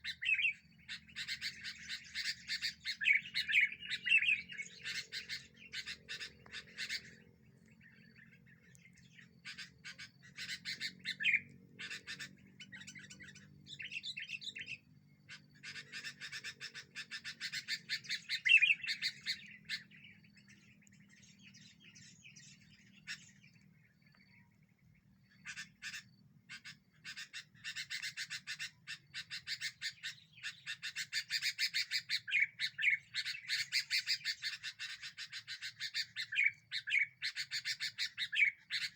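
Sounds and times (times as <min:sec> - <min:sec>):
birds chattering chirps: 0:00.0 - 0:38.9.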